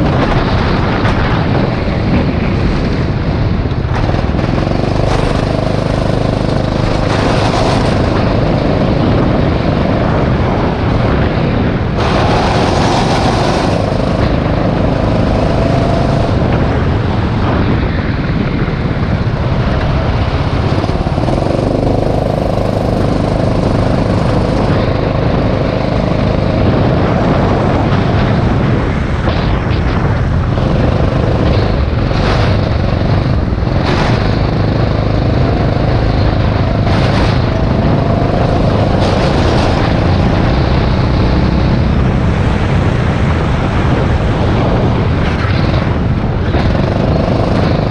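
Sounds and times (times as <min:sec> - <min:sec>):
go-kart engine running: 0:00.0 - 0:47.9.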